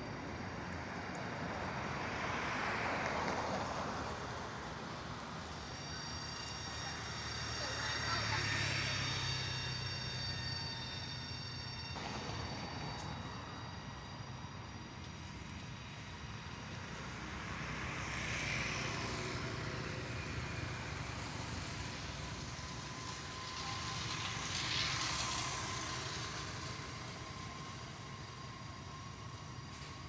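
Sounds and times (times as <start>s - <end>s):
low traffic rumble: 0.0s - 30.0s
vehicles passing: 0.0s - 30.0s.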